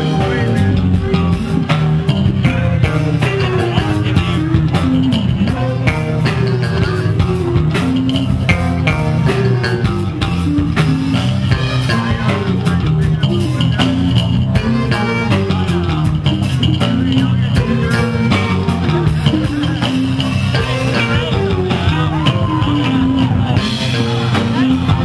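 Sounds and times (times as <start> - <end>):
bass guitar: 0.0 - 25.0
electric guitar lead line: 0.0 - 25.0.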